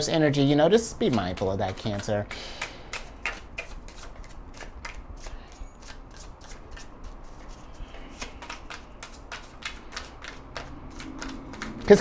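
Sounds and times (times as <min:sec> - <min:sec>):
cards being shuffled: 0:01.0 - 0:12.0.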